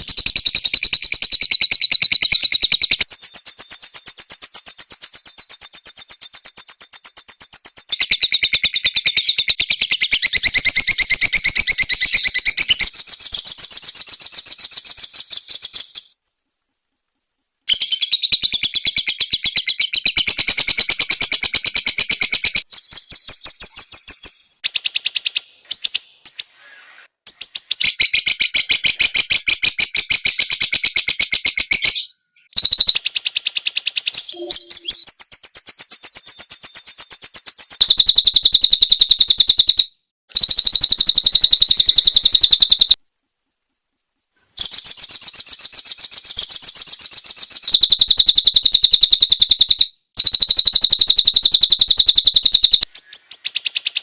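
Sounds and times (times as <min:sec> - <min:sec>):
songbird chirping: 0:00.0 - 0:54.0.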